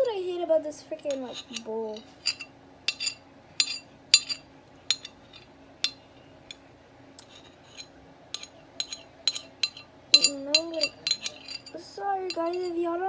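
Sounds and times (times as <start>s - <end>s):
utensil clinking against bowl: 1.0s - 6.6s, 7.2s - 12.8s.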